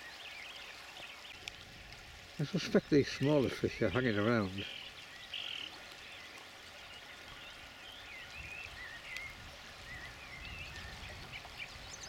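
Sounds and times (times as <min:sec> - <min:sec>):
river water over gravel: 0:00.0 - 0:12.0.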